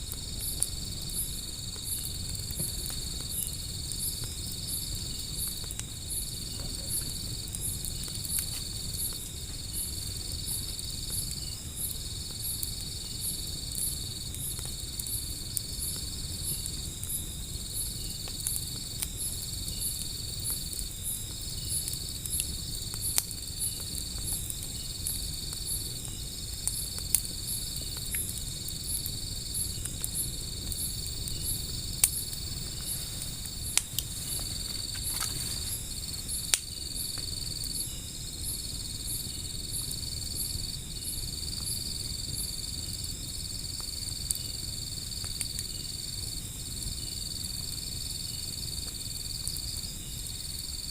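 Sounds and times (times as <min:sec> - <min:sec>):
insect long trill: 0:00.0 - 0:50.9
wood fire popping: 0:00.0 - 0:50.9.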